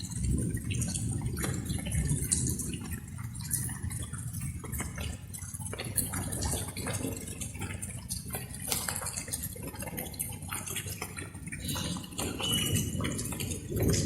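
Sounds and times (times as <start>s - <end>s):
rain drops dripping and splashing: 0.0s - 14.0s.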